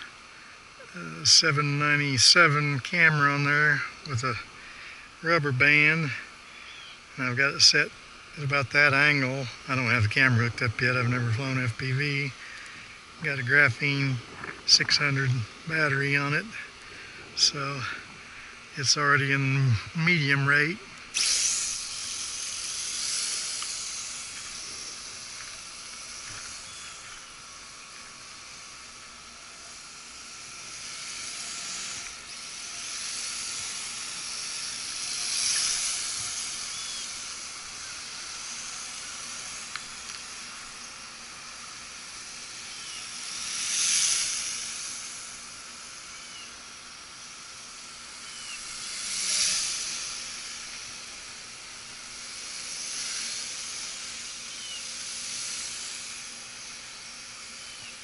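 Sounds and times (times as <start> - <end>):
toy drone motors whining: 0.0 - 58.0.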